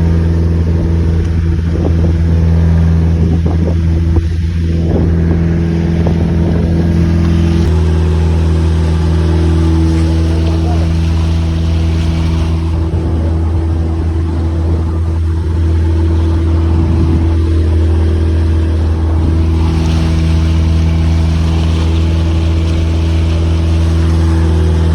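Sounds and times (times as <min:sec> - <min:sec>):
boat engine droning: 0:00.0 - 0:24.9.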